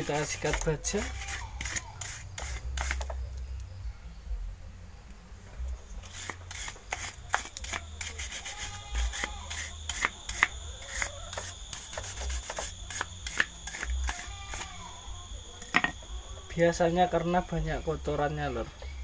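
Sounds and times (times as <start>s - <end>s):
wire brush scrubbing metal: 0.0s - 3.1s, 6.0s - 18.6s.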